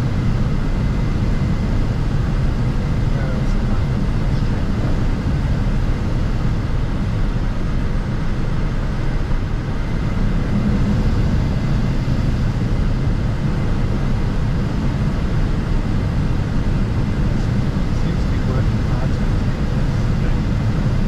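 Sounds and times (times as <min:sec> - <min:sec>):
aircraft cockpit noise: 0:00.0 - 0:21.0.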